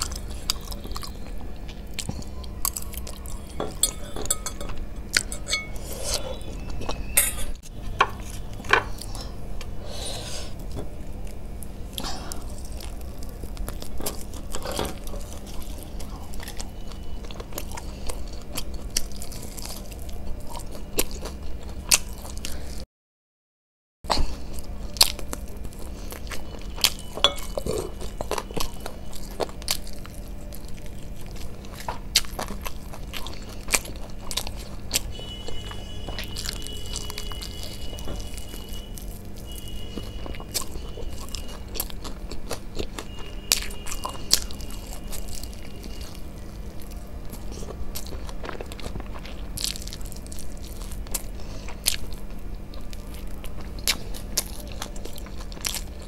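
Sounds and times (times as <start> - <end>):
person chewing chicken: 0.0 - 22.8, 24.1 - 56.0.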